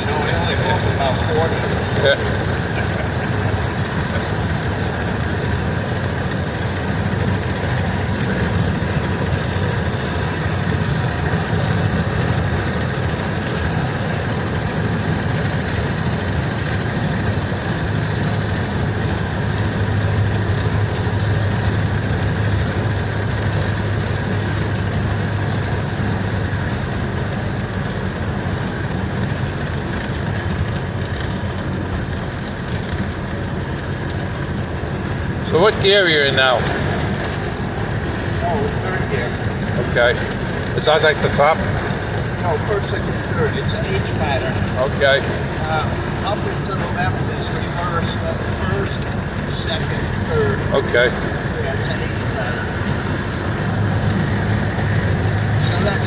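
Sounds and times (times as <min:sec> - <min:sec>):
car engine running: 0:00.0 - 0:56.0
road noise: 0:00.0 - 0:56.0.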